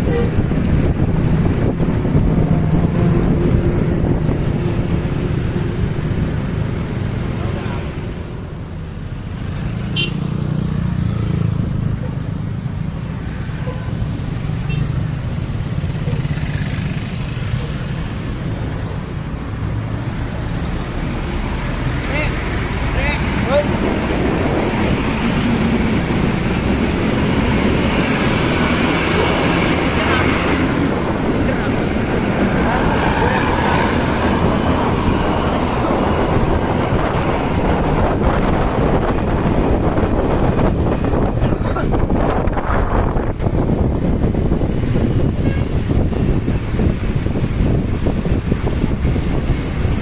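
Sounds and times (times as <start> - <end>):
wind buffeting microphone: 0.0 - 7.3, 15.2 - 50.0
bus engine rumbling: 0.0 - 50.0
road and traffic noise: 0.0 - 50.0.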